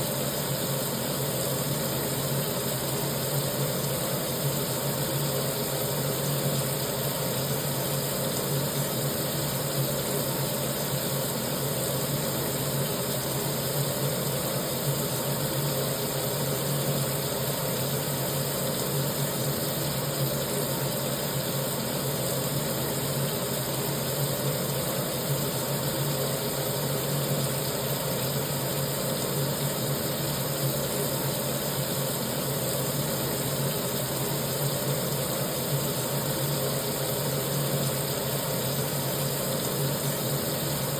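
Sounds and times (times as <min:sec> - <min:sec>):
tap water pouring into sink: 0:00.0 - 0:40.9.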